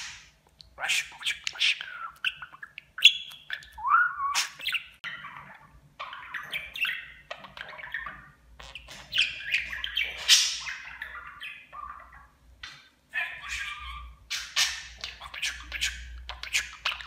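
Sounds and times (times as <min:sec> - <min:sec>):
budgerigar chirping: 0:00.8 - 0:17.0.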